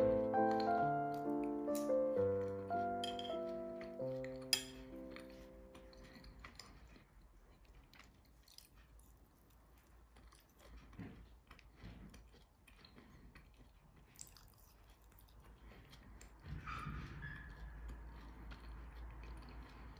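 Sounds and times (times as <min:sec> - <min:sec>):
faint chewing and crunching: 0:00.0 - 0:19.9.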